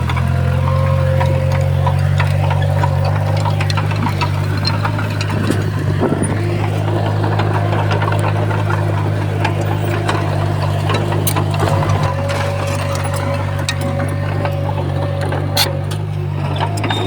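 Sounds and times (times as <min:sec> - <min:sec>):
bulldozer diesel engine running: 0:00.0 - 0:17.0
metallic clicks and clanks: 0:00.0 - 0:17.0.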